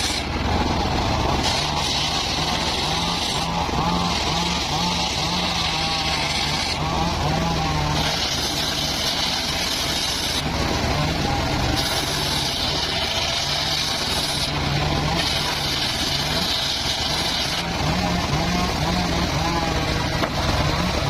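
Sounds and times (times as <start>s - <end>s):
saw blade hissing through timber: 0.0s - 0.5s, 1.2s - 21.0s
sawmill engine hum: 0.0s - 21.0s.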